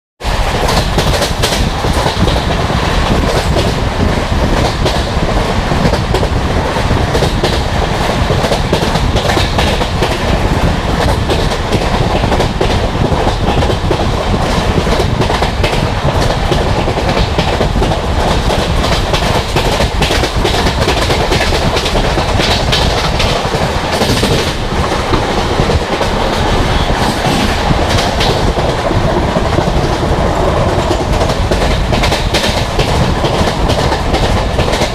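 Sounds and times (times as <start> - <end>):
clickety-clack over rail joints: 0.2 - 34.9
train wheels rumbling: 0.2 - 34.9.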